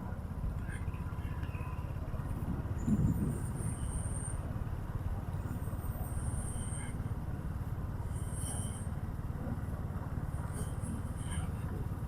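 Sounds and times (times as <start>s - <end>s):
motorcycle engine and wind rumble: 0.0s - 12.0s.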